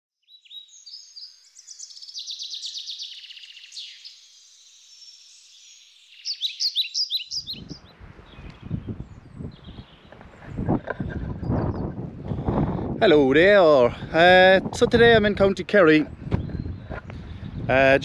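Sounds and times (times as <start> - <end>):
birds singing and trilling: 0.2 - 18.0.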